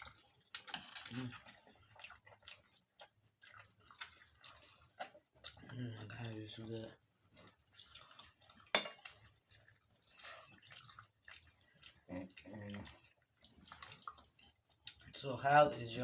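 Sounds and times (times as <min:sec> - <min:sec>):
wet chewing and lip smacks: 0:00.0 - 0:15.2.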